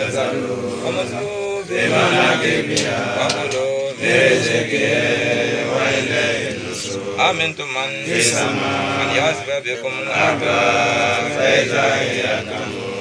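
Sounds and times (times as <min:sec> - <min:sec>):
men chanting a prayer: 0:00.0 - 0:13.0.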